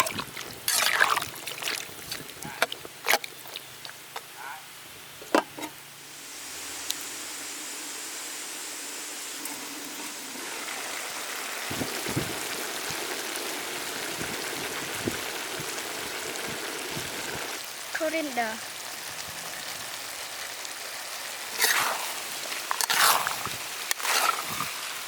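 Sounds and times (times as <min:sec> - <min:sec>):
liquid sizzling in a hot pan: 0:00.0 - 0:03.9, 0:05.7 - 0:25.0.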